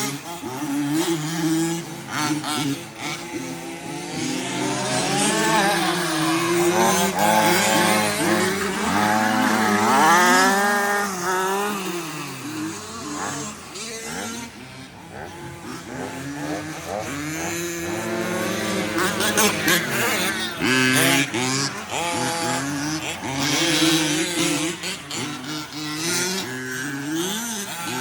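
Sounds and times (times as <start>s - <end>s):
remote-control truck motors: 0.0s - 28.0s.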